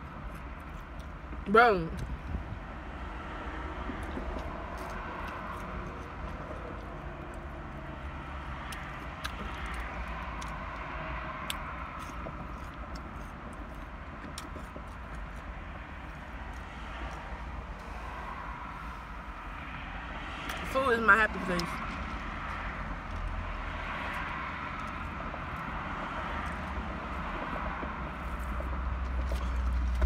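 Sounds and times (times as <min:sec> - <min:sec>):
low rumble inside car: 0:00.0 - 0:30.0.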